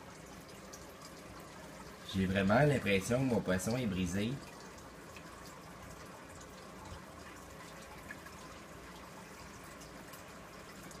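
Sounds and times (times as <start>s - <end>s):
aquarium water trickling and bubbling: 0.0s - 11.0s
small water drips: 0.0s - 11.0s.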